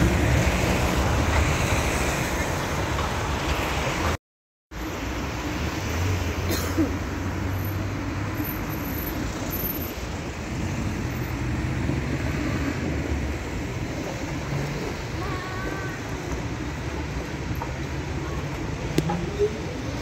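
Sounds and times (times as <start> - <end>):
tram rumbling past: 0.0 - 4.2, 4.9 - 20.0.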